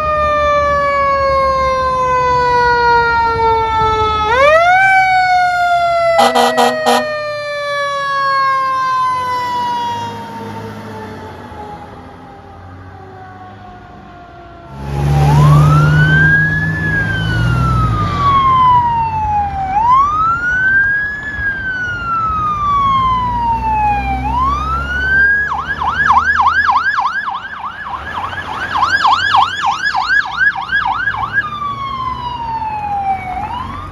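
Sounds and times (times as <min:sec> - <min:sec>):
fire truck siren wailing and yelping: 0:00.0 - 0:33.9.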